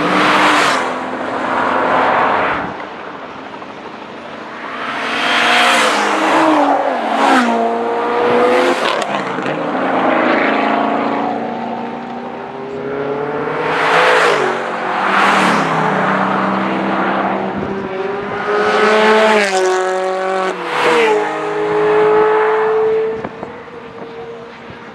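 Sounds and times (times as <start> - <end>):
sports cars accelerating past: 0.0 - 24.6
rushing noise of passing cars: 0.0 - 24.9.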